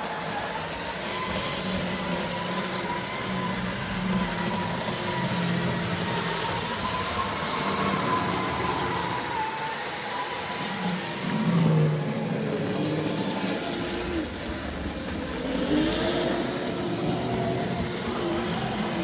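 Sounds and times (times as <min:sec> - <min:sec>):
model train motor whirring: 0:00.0 - 0:19.0.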